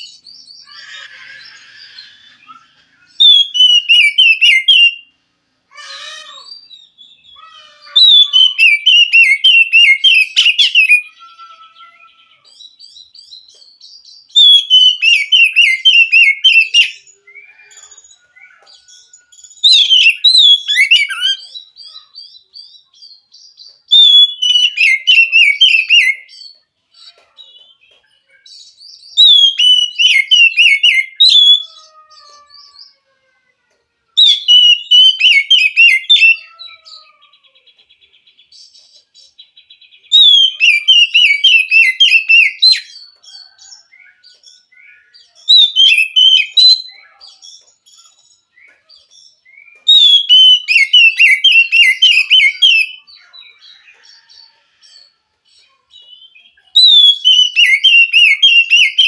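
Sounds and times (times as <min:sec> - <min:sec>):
bird singing varied phrases: 0:00.0 - 0:59.0.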